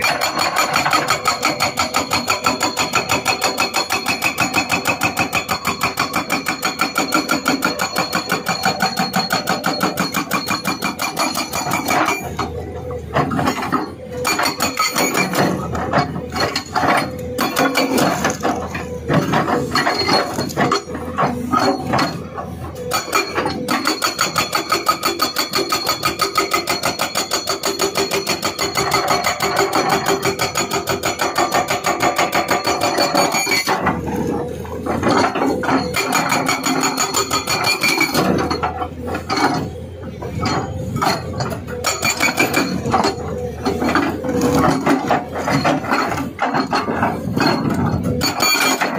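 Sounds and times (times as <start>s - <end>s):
hydraulic breaker hammering rock: 0.0s - 48.9s.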